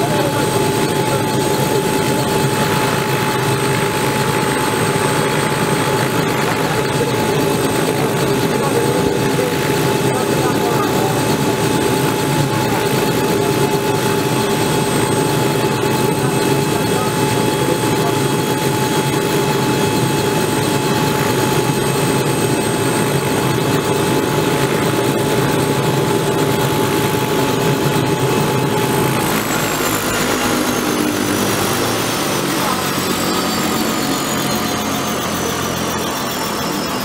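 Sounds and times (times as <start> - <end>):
helicopter turbine whine: 0.0 - 37.0.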